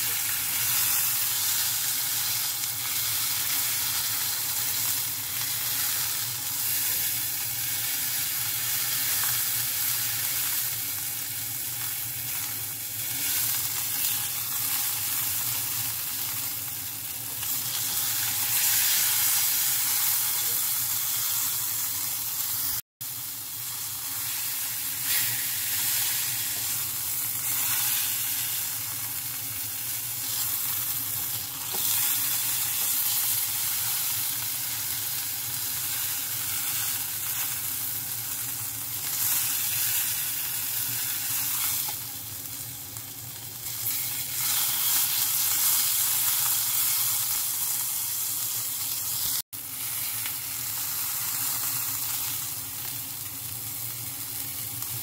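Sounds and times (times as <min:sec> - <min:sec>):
meat sizzling in a frying pan: 0:00.0 - 0:55.0.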